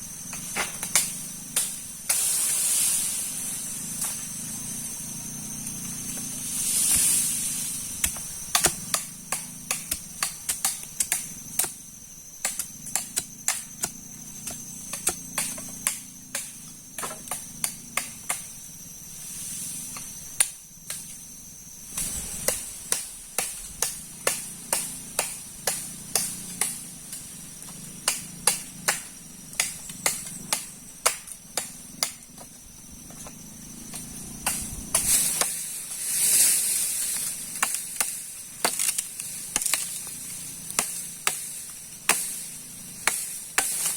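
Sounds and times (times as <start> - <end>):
steady high-pitched hum: 0.0 - 43.9.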